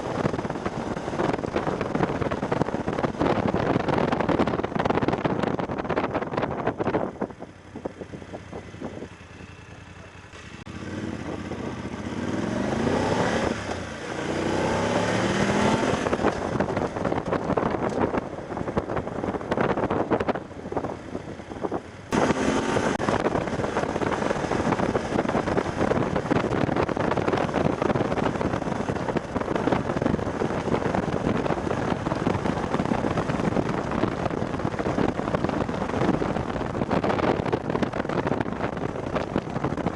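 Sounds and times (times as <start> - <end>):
wind noise on microphone: 0.0 - 9.4, 10.4 - 39.9
motorcycle engine accelerating: 0.0 - 39.9.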